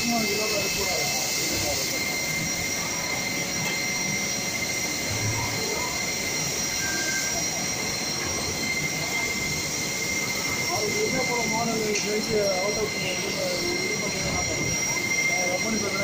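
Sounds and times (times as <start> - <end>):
high-pitched whine: 0.0 - 16.0
machinery hiss: 0.0 - 16.0.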